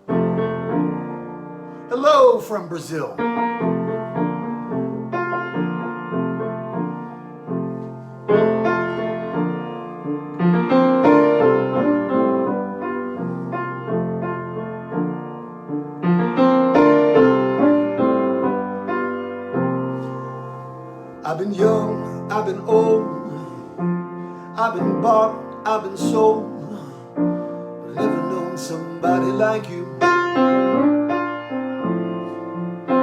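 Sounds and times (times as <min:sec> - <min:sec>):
solo piano playing chords: 0:00.0 - 0:33.0.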